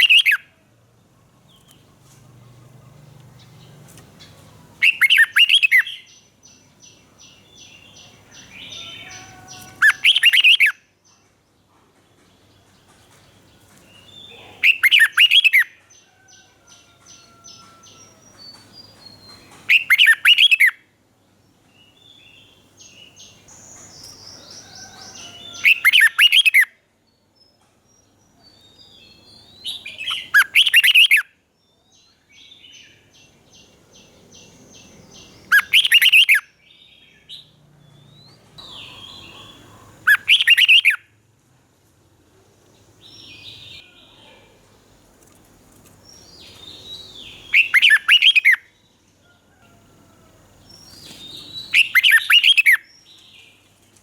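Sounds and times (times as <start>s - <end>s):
bird song phrases: 0.0s - 41.1s, 42.7s - 54.0s
faint bird chirping: 0.0s - 41.2s, 42.3s - 54.0s.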